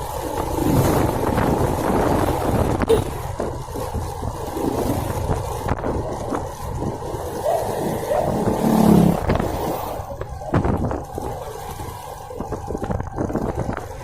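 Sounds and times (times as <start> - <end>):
vehicle road noise rumble: 0.0 - 14.0.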